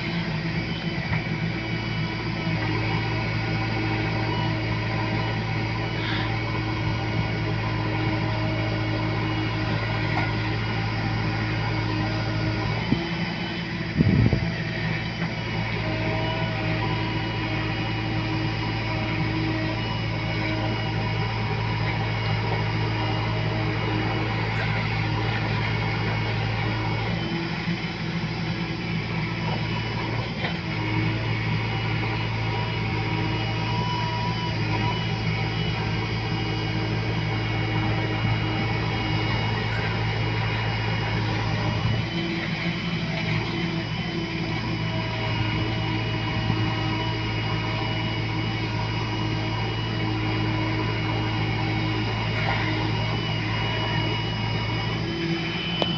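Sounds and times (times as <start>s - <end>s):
digger diesel engine running: 0.0s - 55.9s
thin high whine: 0.0s - 55.9s.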